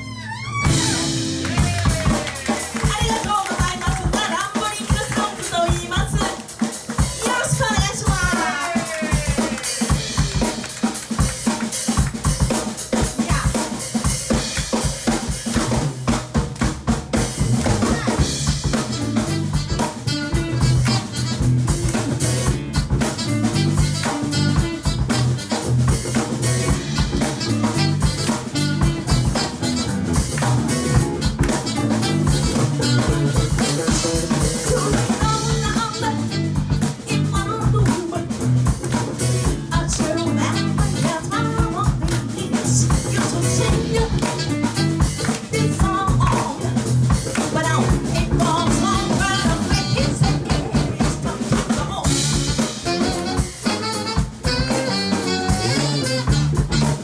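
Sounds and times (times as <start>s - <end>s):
bass guitar line: 0.0s - 57.0s
drum kit playing: 0.0s - 57.0s
live rock band music: 0.0s - 57.0s.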